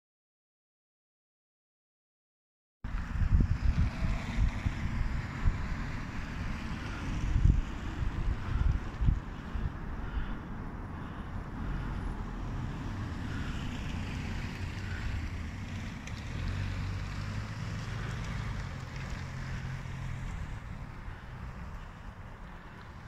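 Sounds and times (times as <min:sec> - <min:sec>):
wind rumble on microphone: 0:02.9 - 0:23.0
car driving past: 0:03.0 - 0:23.0.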